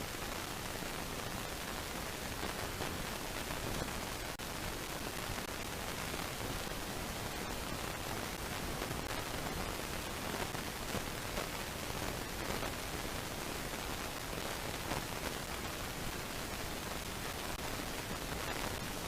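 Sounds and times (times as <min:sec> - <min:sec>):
static-like hiss: 0:00.0 - 0:19.0.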